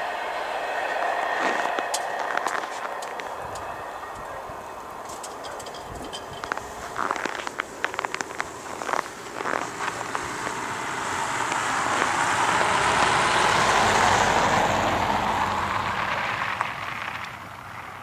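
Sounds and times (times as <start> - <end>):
car driving past: 0.0 - 18.0.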